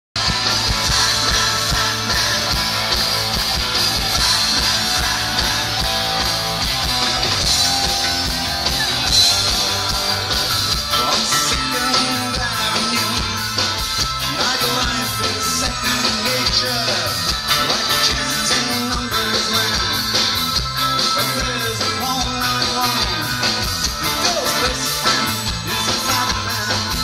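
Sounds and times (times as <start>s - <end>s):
drums: 0.2s - 27.0s
electric guitar: 0.2s - 27.0s.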